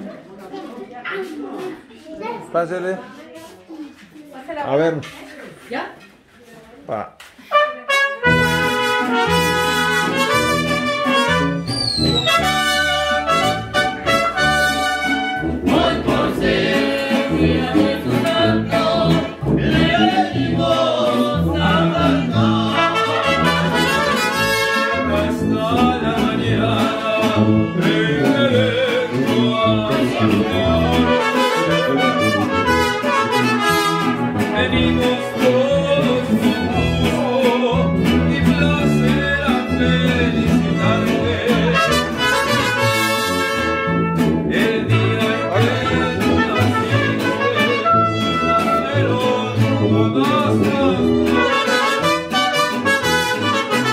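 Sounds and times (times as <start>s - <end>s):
brass music with trumpets: 7.4s - 53.9s.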